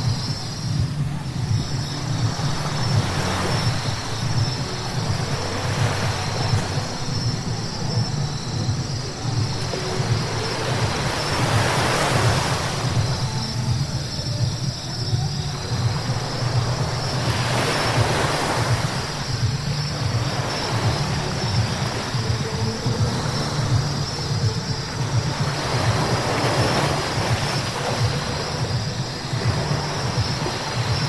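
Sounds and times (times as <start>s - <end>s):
road rumble: 0.0s - 31.0s.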